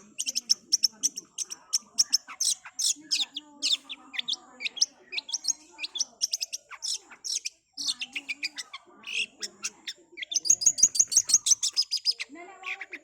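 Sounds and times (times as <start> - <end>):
bird singing rapid sharp chirps: 0.0 - 13.0.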